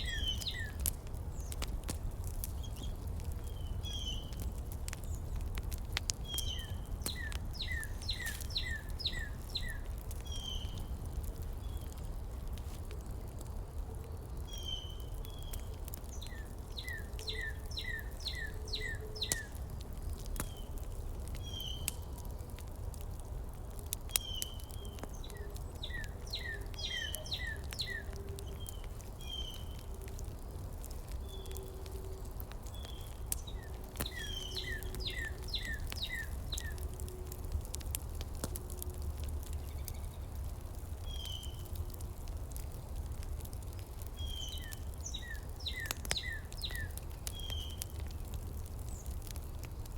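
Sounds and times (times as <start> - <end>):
songbirds singing: 0.0 - 12.1, 14.1 - 22.5, 23.8 - 49.9.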